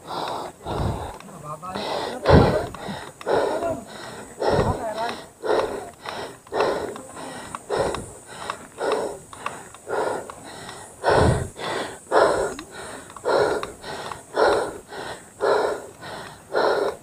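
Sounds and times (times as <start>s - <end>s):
person breathing hard: 0.0s - 17.0s.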